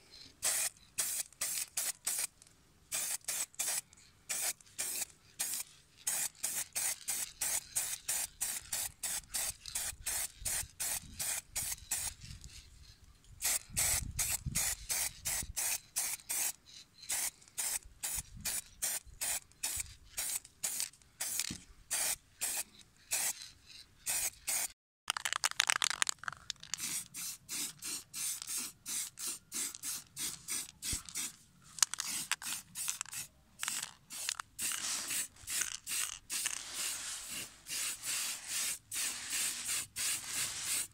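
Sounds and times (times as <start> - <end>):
spray paint can spraying: 0.4 - 12.6, 13.4 - 40.9.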